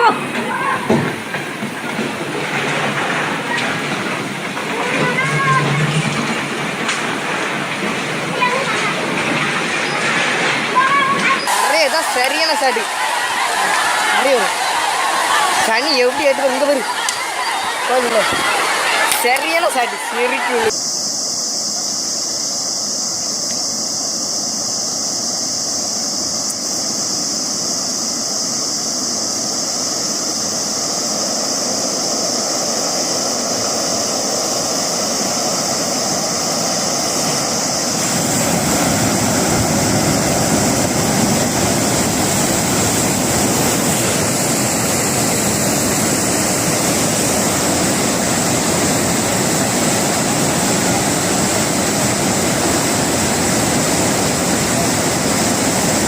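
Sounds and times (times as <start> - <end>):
loud rush of water: 0.0 - 56.0.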